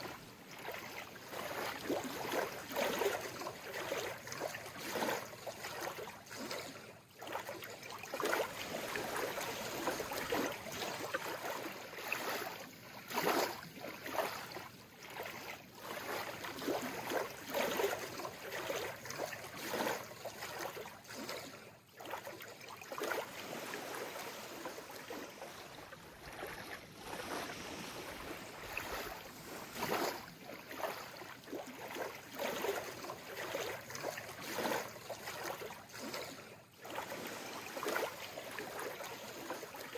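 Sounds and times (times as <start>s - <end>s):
sea water lapping: 0.0s - 39.9s.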